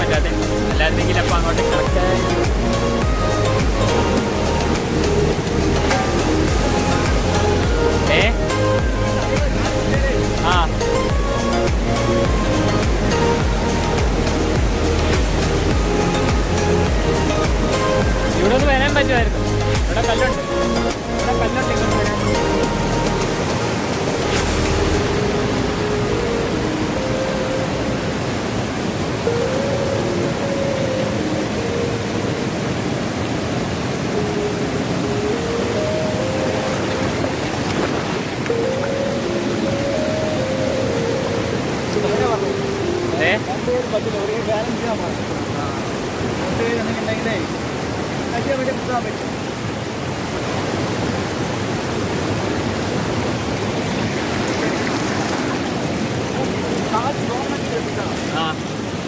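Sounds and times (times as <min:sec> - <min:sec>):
faint background music: 0:00.0 - 0:49.9
river rushing over rocks: 0:00.0 - 0:59.0.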